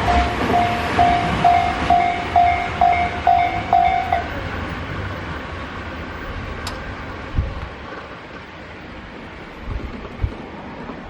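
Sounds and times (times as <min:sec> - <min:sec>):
train wheels rolling: 0:00.0 - 0:11.0.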